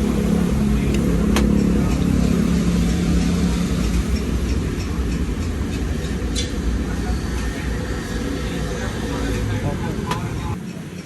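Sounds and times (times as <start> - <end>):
faint hum: 0.0 - 11.0
motorcycle engine rumbling: 0.0 - 11.0.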